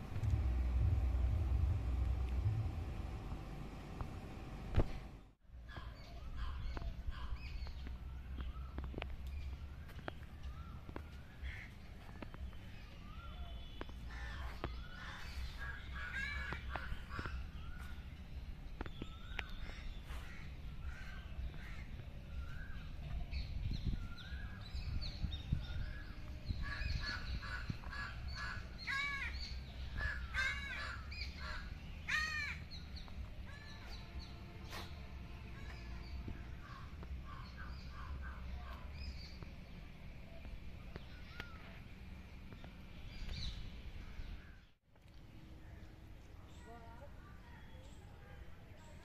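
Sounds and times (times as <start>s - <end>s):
low steady rumble: 0.0s - 48.8s
birds calling: 4.8s - 44.8s.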